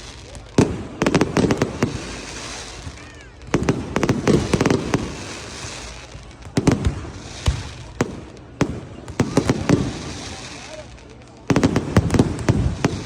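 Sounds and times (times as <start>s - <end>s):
crackling hiss: 0.0s - 13.0s
firecrackers banging: 0.0s - 13.0s.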